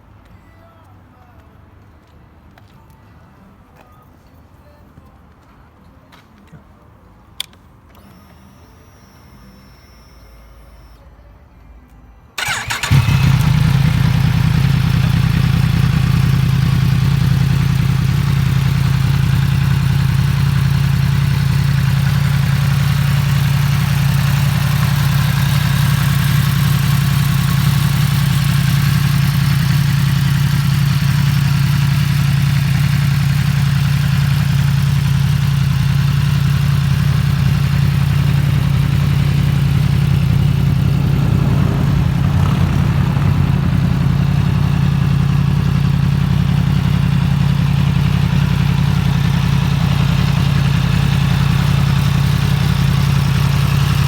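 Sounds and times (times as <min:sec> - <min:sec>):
motorcycle engine starting and idling: 0:07.4 - 0:11.0, 0:12.4 - 0:54.0.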